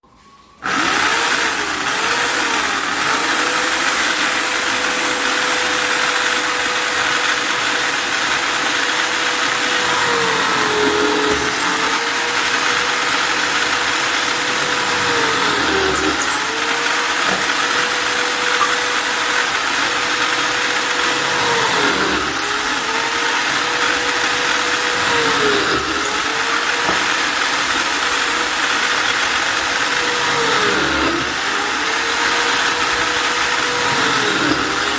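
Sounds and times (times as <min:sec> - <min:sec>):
electric drill motor whine: 0:00.1 - 0:34.9.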